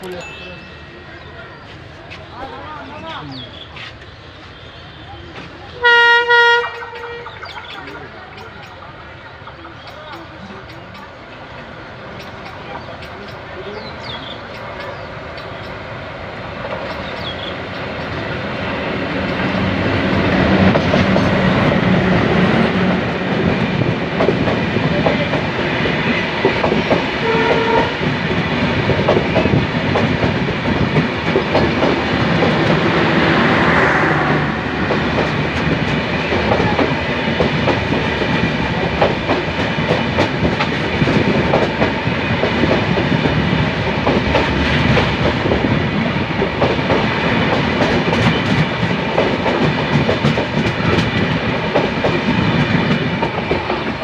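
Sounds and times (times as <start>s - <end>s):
trains rumbling past: 0.0s - 54.0s
wheels clacking over rail joints: 6.6s - 54.0s.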